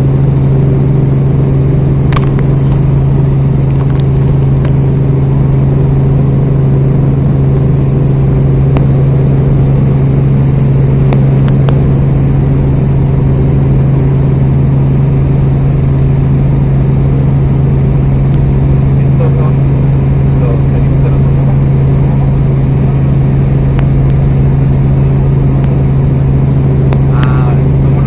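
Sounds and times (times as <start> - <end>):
helicopter engine and rotors: 0.0 - 28.0.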